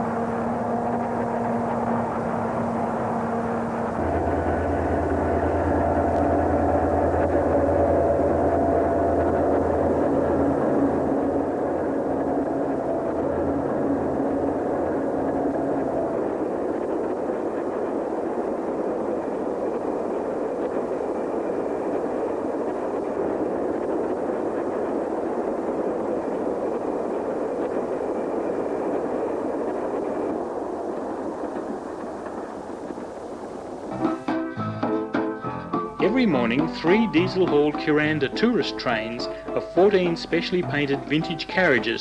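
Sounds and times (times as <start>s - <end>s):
hum: 0.0s - 42.0s
train wheels rumbling on rails: 0.0s - 42.0s.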